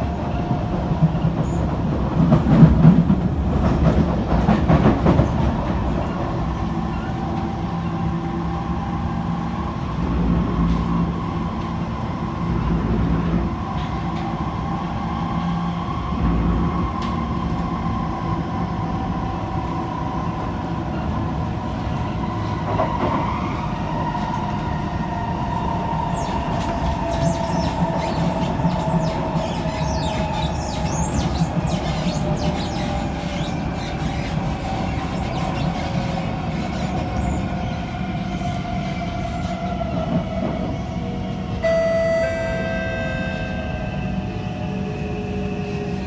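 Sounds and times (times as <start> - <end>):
train wheels rumbling on track: 0.0 - 41.6.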